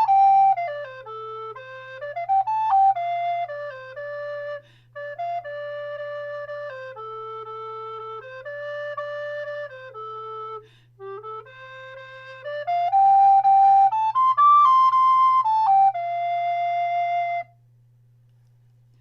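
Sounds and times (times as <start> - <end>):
recorder playing cheerful melody: 0.0 - 17.6.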